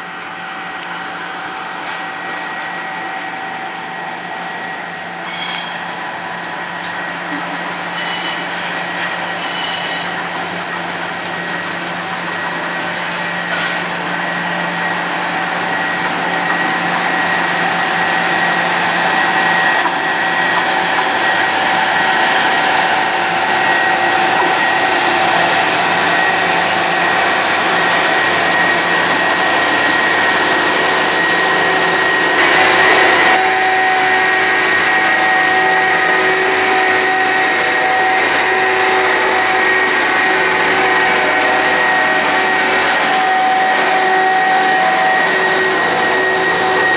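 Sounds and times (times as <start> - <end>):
diesel engine high whine: 0.0 - 46.9.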